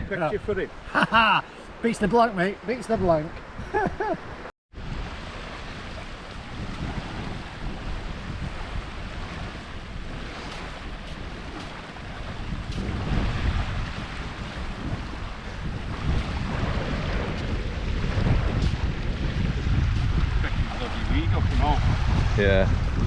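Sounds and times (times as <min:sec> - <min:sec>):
surf washing on beach: 0:00.0 - 0:23.0
wind buffeting microphone: 0:01.6 - 0:23.0.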